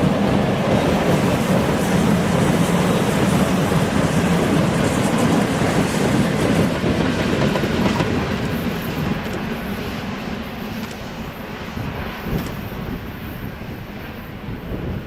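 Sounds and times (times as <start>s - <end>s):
locomotive wheels on rails: 0.0s - 15.0s.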